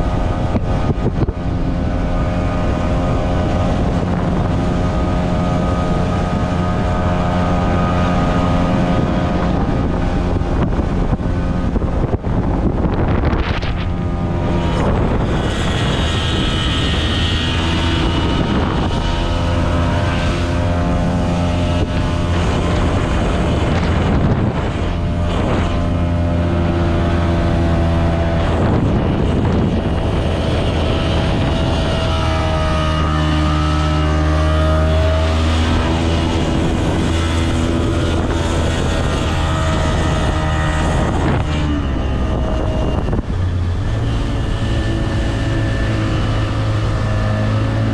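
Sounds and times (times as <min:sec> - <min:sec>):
rush of wind and water: 0:00.0 - 0:47.9
speedboat engine running: 0:00.0 - 0:47.9.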